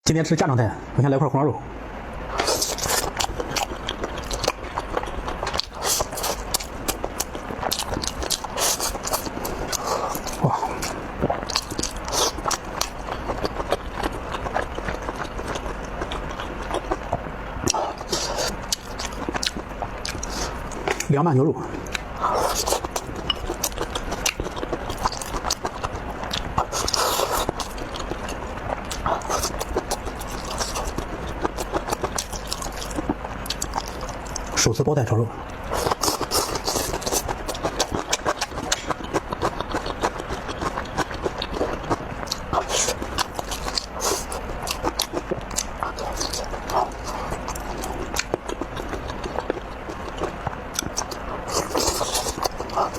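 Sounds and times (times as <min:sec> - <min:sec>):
person chewing: 0:02.3 - 0:21.1, 0:21.7 - 0:34.6, 0:35.4 - 0:52.9.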